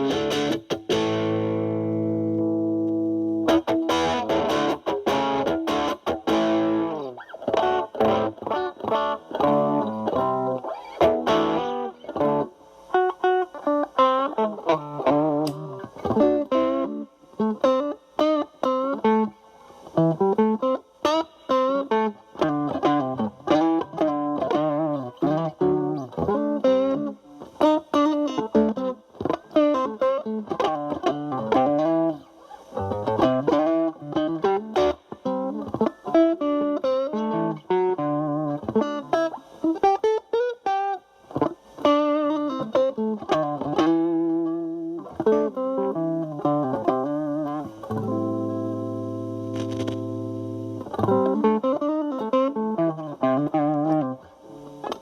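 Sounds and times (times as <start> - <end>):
distorted electric guitar chords: 0.0 - 55.0
electric guitar lead with vibrato: 0.0 - 55.0.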